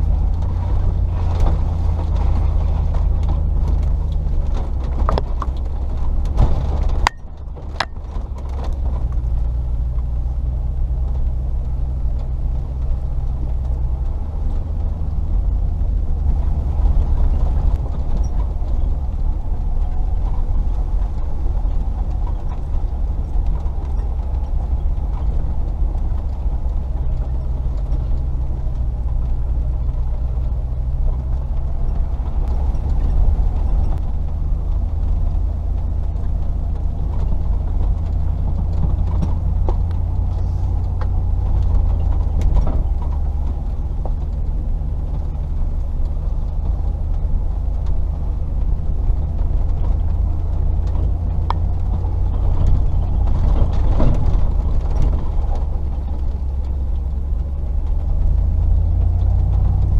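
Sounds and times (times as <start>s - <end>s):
car engine running: 0.0s - 59.9s
knocks and rattles: 0.0s - 59.9s.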